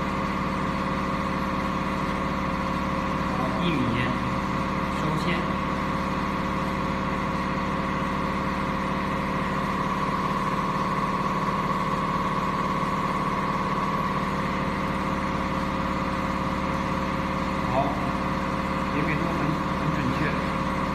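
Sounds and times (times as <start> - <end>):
mechanical hum: 0.0 - 20.9.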